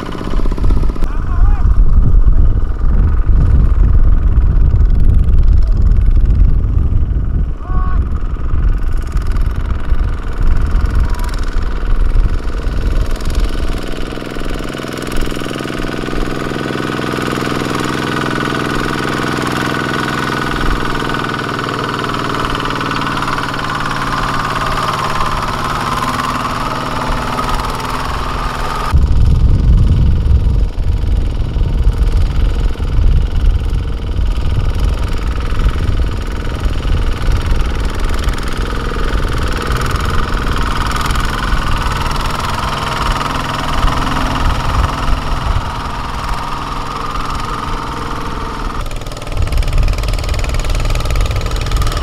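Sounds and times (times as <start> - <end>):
diesel tractor engine under load: 0.0 - 52.0.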